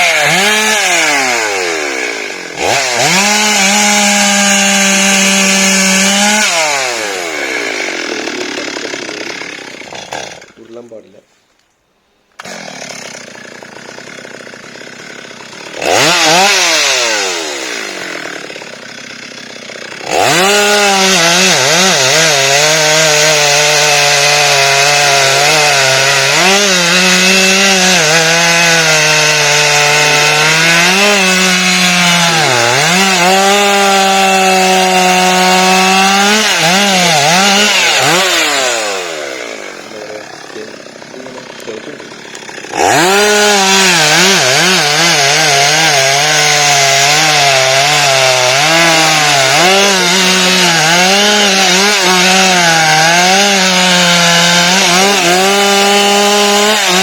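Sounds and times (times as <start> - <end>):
chainsaw cutting wood: 0.0 - 11.0, 12.4 - 57.0.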